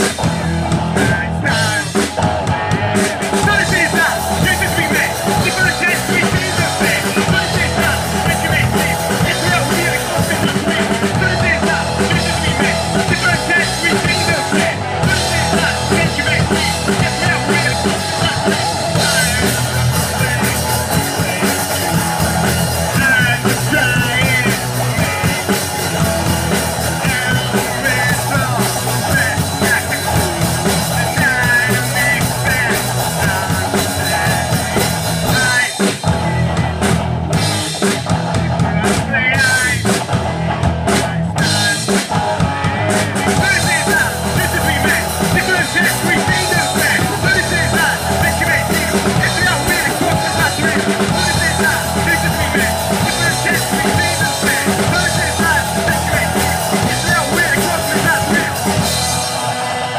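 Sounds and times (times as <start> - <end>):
man singing: 0.0 - 36.7, 37.4 - 40.1, 40.9 - 59.9
bass guitar: 0.0 - 59.9
drum kit: 0.0 - 59.9
electric guitar: 0.0 - 59.9.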